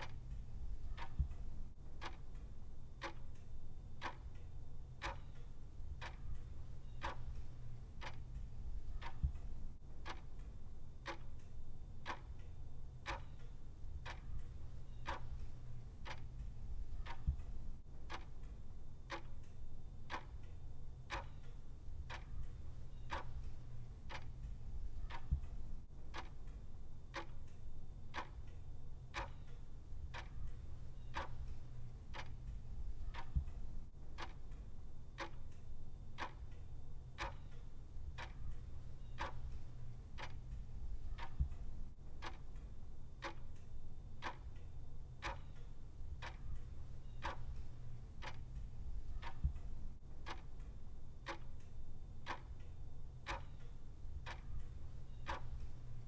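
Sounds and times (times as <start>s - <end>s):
clock ticking: 0.0s - 56.0s
low steady rumble: 0.0s - 56.0s.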